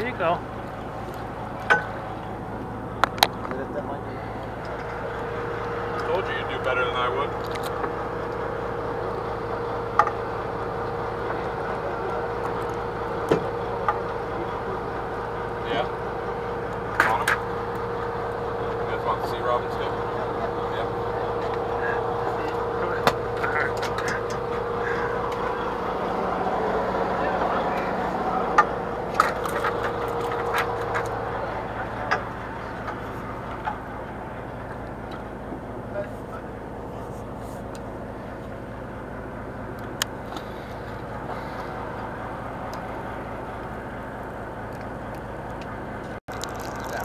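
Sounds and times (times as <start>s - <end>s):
boat motor droning: 0.0s - 47.0s.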